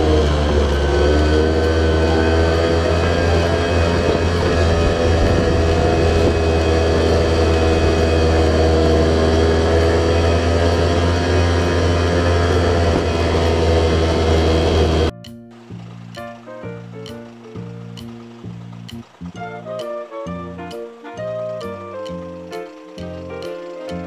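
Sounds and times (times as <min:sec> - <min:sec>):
loud engine drone: 0:00.0 - 0:24.0.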